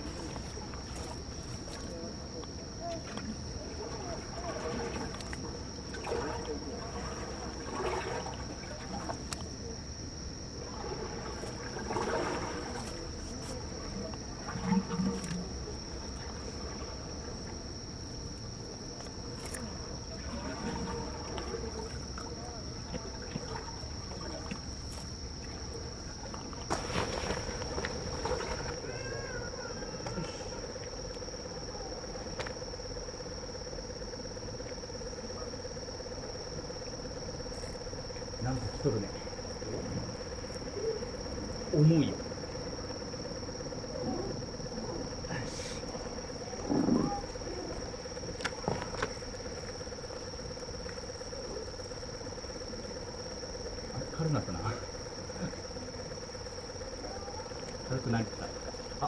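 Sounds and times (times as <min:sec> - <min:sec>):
insect trilling: 0:00.0 - 0:59.0
soft water sounds: 0:00.0 - 0:59.0.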